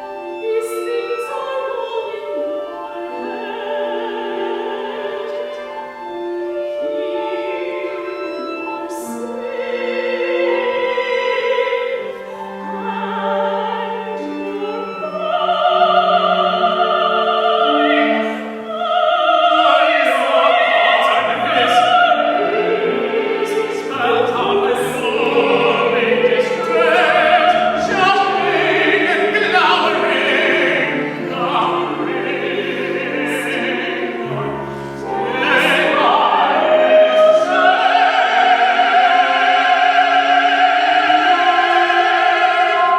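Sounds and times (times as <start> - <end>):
opera singing with instruments: 0.0 - 42.9.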